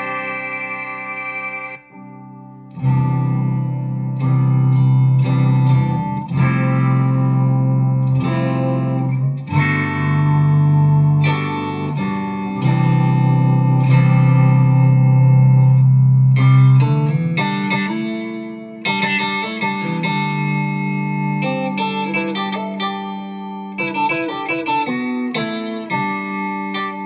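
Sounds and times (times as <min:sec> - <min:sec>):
sustained synth guitar notes: 0:00.0 - 0:27.0.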